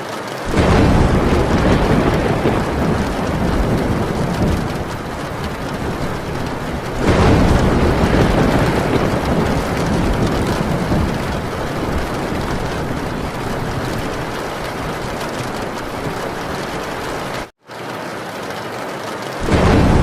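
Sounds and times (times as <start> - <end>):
heavy rain on a tin roof: 0.0 - 20.0
thunderclap rumbling: 0.4 - 17.5, 19.4 - 20.0.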